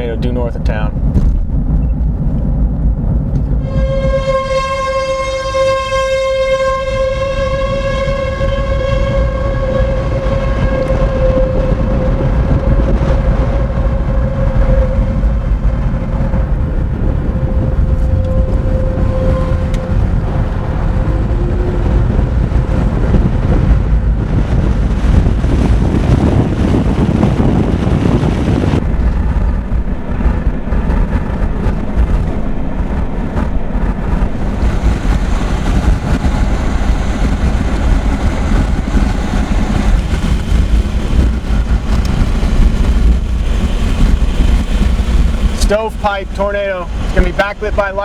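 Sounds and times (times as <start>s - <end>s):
car road rumble: 0.0s - 48.0s
wind hiss: 3.3s - 48.0s.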